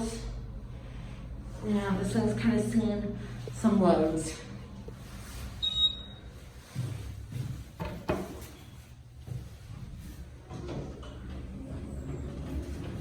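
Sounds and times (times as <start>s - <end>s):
low hum of elevator car: 0.0s - 13.0s.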